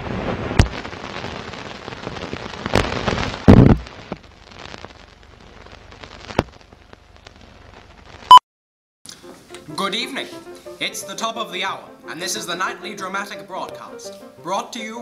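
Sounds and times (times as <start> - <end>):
film hiss and crackle: 0.0 - 8.3, 9.1 - 15.0.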